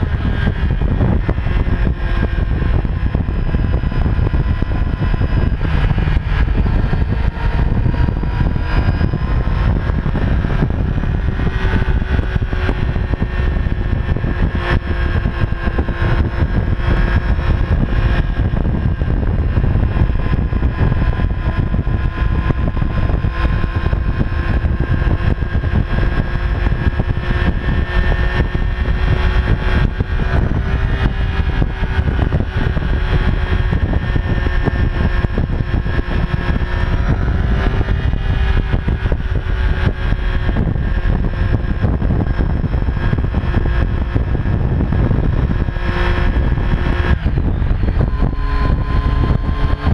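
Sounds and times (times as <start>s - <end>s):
motorcycle engine rumbling: 0.0s - 49.9s.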